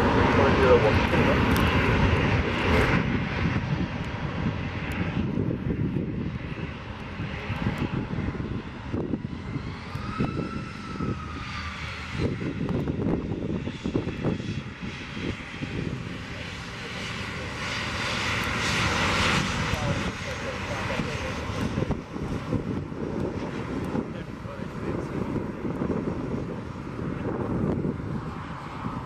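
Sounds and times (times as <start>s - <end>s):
jet engines taxiing: 0.0s - 29.0s.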